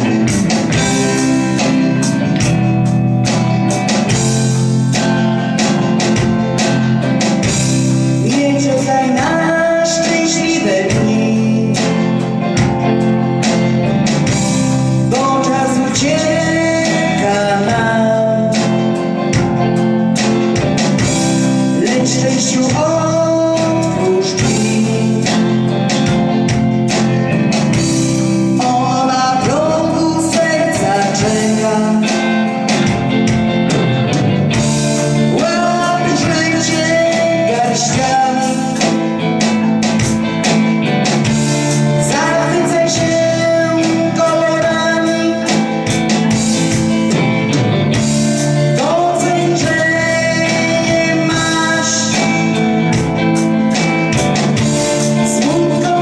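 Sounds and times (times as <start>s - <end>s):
song with singing and beat: 0.0s - 56.0s.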